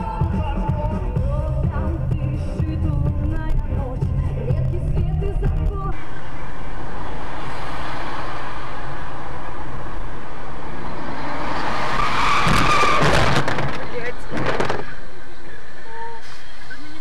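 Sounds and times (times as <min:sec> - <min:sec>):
road and wind noise: 0:01.0 - 0:17.0.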